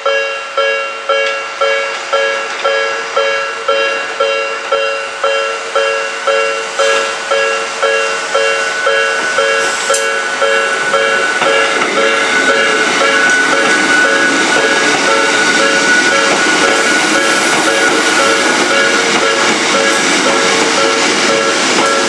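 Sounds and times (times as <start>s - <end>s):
level-crossing warning bell: 0.0s - 22.0s
train running: 0.0s - 22.0s.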